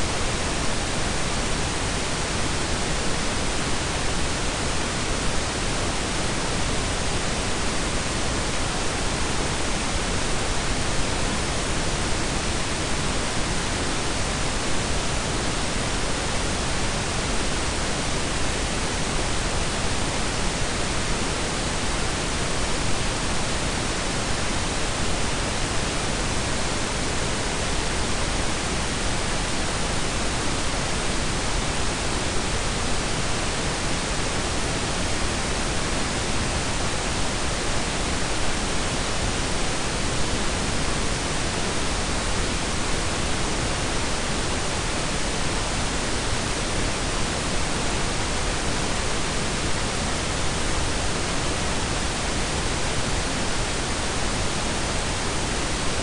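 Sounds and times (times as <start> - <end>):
steady noise hiss: 0.0 - 56.0.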